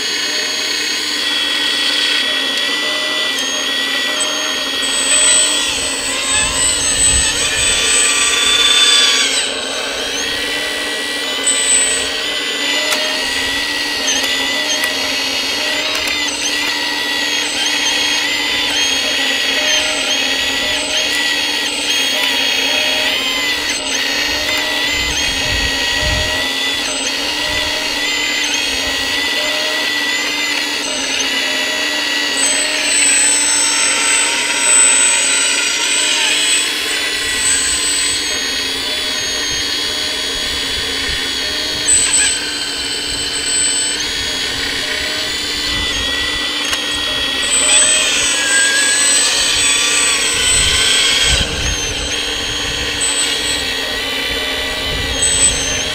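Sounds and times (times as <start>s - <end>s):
hydraulic pump whining: 0.0s - 55.9s.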